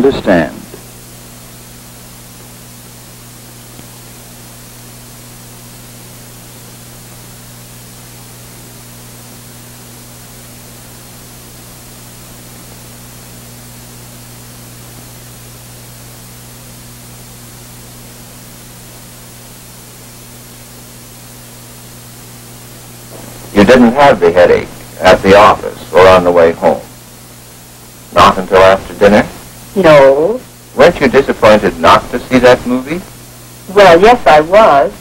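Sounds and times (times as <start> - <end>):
film soundtrack hiss and hum: 0.0 - 35.0.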